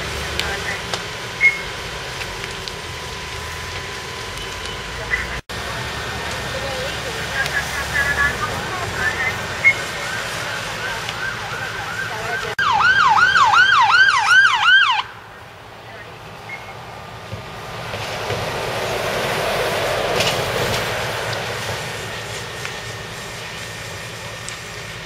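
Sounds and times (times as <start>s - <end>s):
fire engine driving past: 0.0s - 25.0s
fire engine siren yelping: 0.0s - 25.0s.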